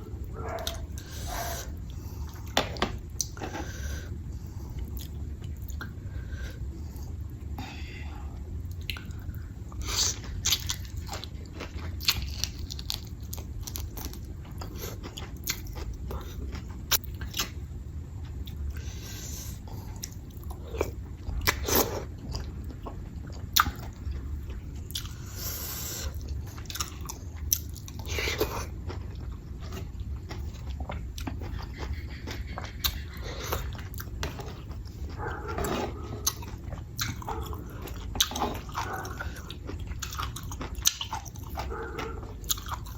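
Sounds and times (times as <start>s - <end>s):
person chewing food: 0.0s - 7.4s, 8.4s - 42.9s.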